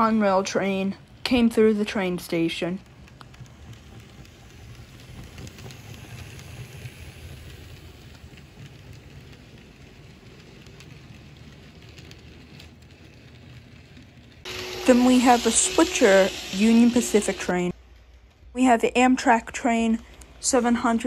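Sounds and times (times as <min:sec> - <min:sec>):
model train rumbling on track: 0:00.0 - 0:21.0.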